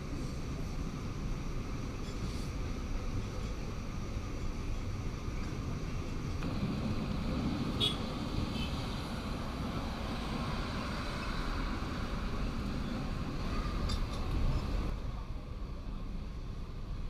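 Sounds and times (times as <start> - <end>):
train carriage rumbling on rails: 0.0 - 17.0.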